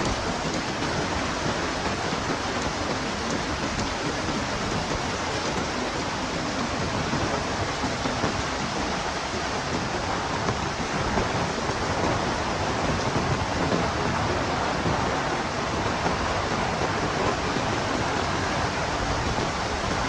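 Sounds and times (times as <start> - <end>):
heavy rain: 0.0 - 20.0
wind: 0.0 - 20.0.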